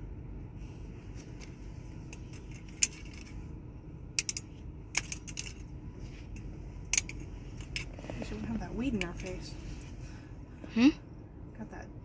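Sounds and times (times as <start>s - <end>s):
low rumble inside car: 0.0s - 12.0s.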